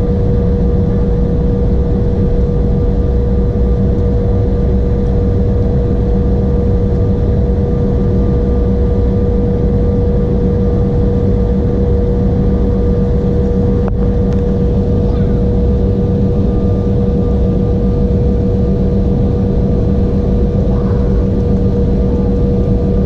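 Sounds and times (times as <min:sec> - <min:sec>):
airliner cabin engine rumble: 0:00.0 - 0:23.0
faint engine whine: 0:00.0 - 0:23.0.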